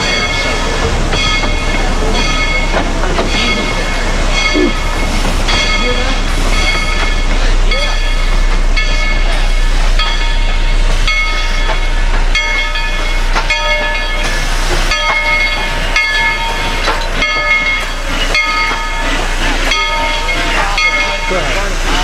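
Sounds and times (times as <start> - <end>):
locomotive bell ringing: 0.0 - 22.0.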